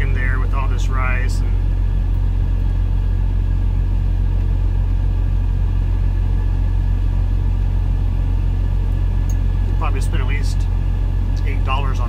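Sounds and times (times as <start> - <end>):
faint steady hum: 0.0 - 12.0
low truck engine rumble: 0.0 - 12.0.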